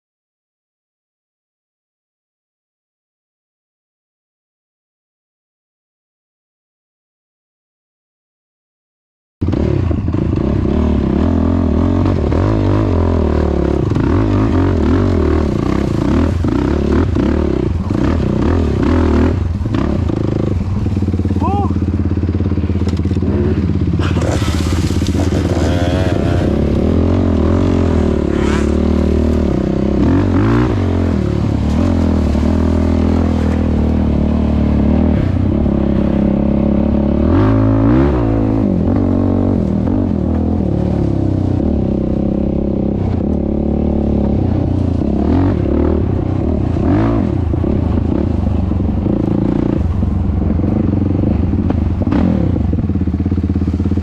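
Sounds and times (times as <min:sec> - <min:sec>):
quad engine revving: 0:09.4 - 0:54.0.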